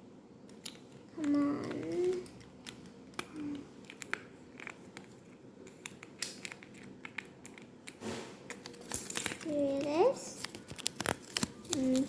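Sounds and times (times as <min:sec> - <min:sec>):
tape and paper crinkling: 0:00.6 - 0:12.0.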